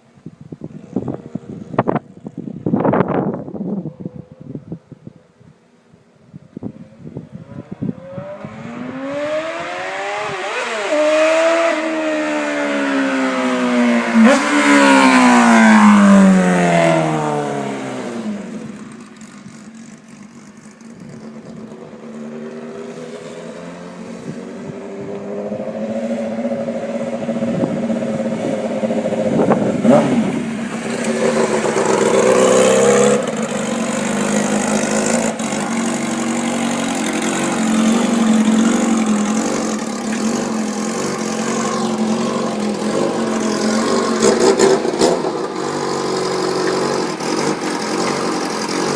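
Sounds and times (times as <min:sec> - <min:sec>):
motorcycle engine revving: 0:07.2 - 0:48.9.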